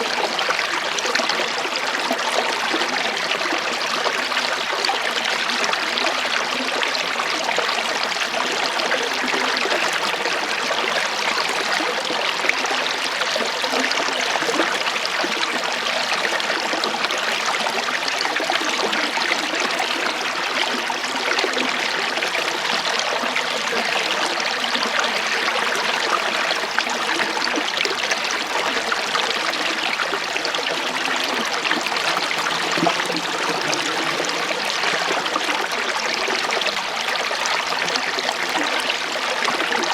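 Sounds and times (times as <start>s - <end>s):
small stream trickling: 0.0s - 39.9s.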